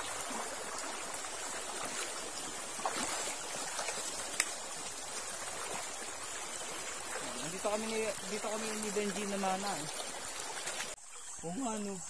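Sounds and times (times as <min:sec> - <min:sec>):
water flowing over rocks: 0:00.0 - 0:12.0.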